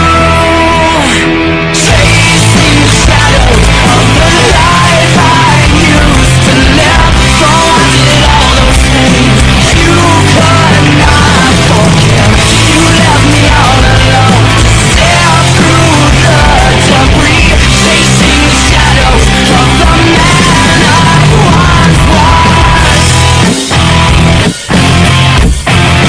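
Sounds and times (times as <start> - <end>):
loud distorted rock music: 0.0 - 26.0.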